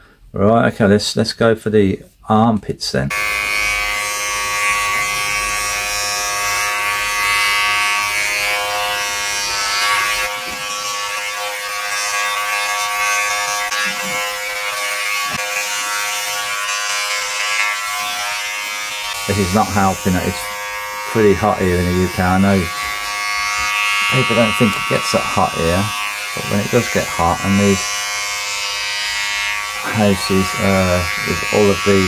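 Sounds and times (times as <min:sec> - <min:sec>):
body groomer buzzing: 0:03.1 - 0:32.0.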